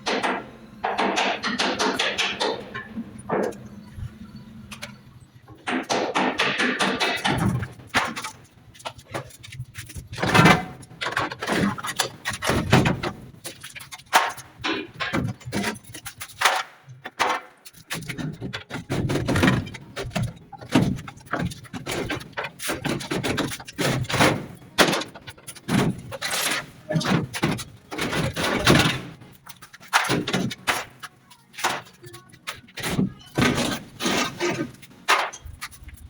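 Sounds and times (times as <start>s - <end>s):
irregular knocks and clatter: 0.0s - 36.0s.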